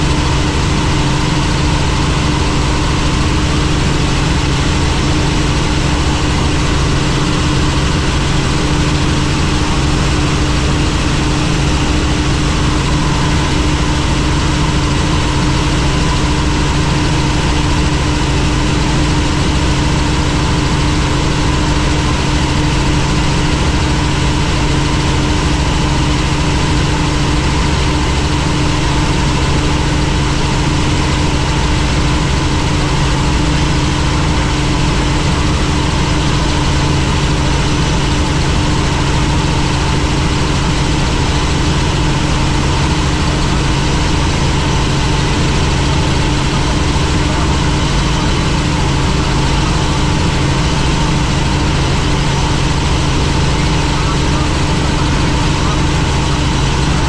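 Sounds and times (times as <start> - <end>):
helicopter drone: 0.0 - 57.0.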